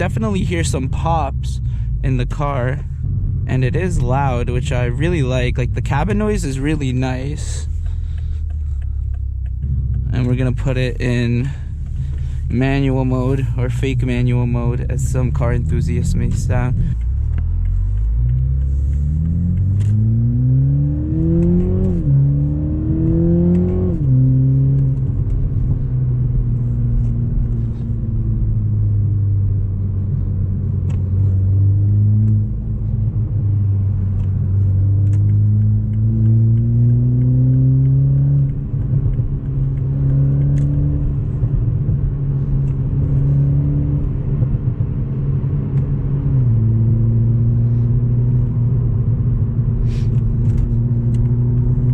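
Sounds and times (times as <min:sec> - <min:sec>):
car engine revving and cruising: 0:00.0 - 0:51.9.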